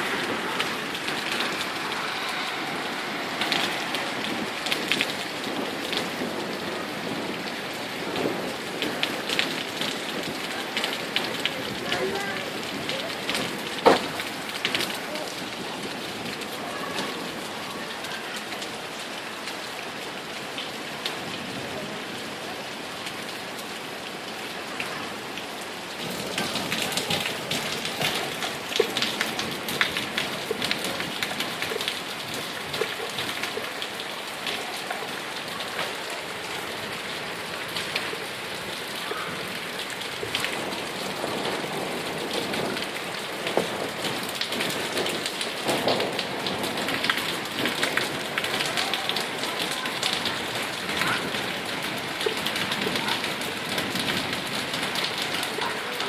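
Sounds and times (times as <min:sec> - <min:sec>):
heavy rain on hard surfaces: 0:00.0 - 0:56.0.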